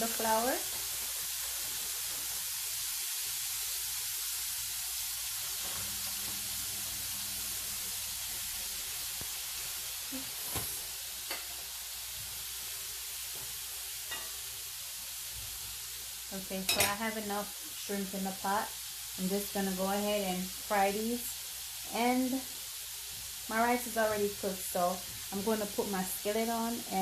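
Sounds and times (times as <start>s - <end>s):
shrimp sizzling in hot oil: 0.0s - 27.0s.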